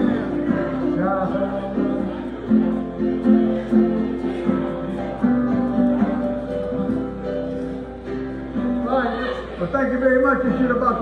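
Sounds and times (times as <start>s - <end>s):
keyboard accompaniment: 0.0s - 9.2s
acoustic guitar strumming: 0.0s - 11.0s.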